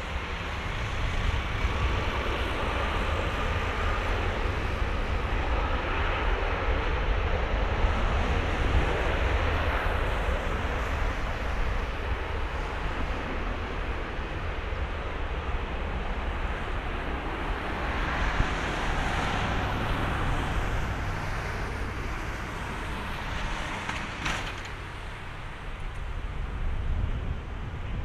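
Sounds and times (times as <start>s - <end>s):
jet engines at takeoff thrust: 0.0s - 28.0s.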